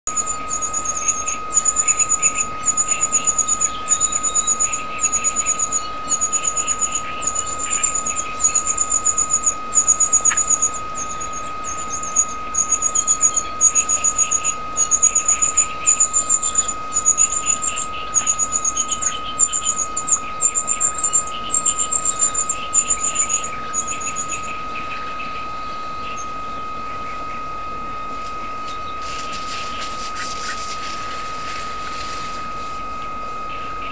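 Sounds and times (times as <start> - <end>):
steady high tone: 0.0 - 33.9
chick begging calls: 0.1 - 27.4.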